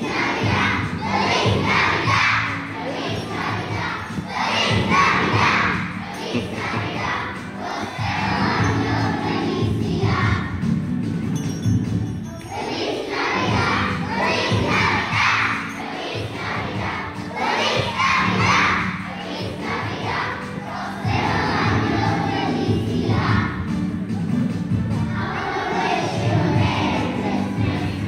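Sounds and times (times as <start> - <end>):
children singing in unison: 0.0 - 10.6, 12.5 - 23.8, 25.1 - 28.0.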